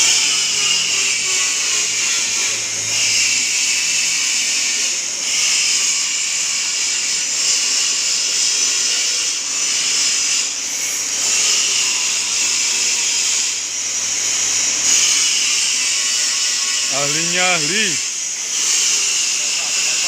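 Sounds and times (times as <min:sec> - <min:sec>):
pipe-rolling machine hissing and scraping: 0:00.0 - 0:20.0.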